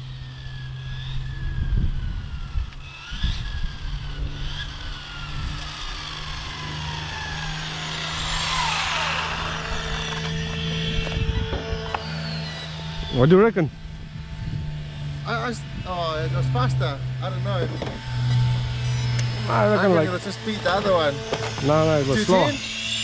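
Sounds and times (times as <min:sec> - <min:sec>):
rc car motor whine: 0:00.0 - 0:23.0.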